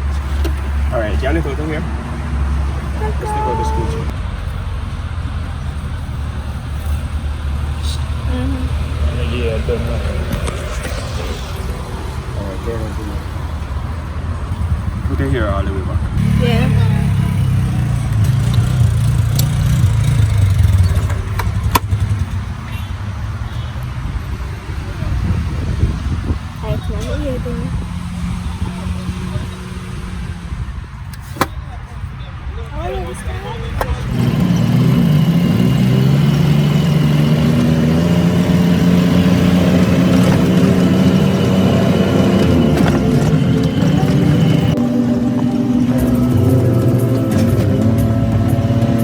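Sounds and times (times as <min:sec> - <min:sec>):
buggy engine idling: 0:00.0 - 0:49.0.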